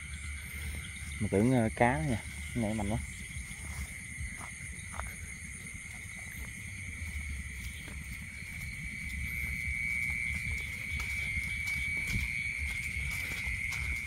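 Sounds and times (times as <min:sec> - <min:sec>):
footsteps on grass: 0:00.0 - 0:14.0
high-pitched night animal chirring: 0:00.0 - 0:14.0.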